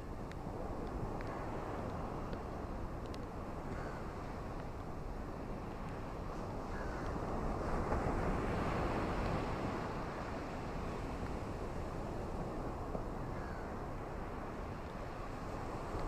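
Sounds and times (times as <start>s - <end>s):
ocean surf on shore: 0.0s - 16.0s
wind: 0.0s - 16.0s.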